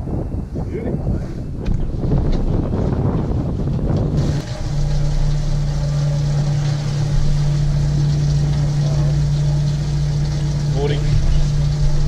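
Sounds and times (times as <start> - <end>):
boat motor humming: 1.5 - 12.0.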